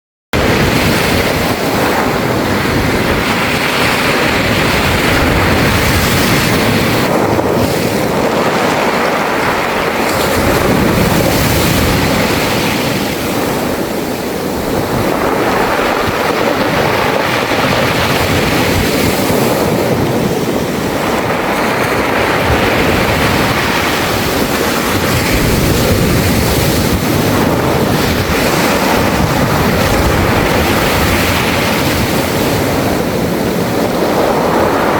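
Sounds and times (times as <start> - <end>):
surf over pebble beach: 0.4 - 34.9.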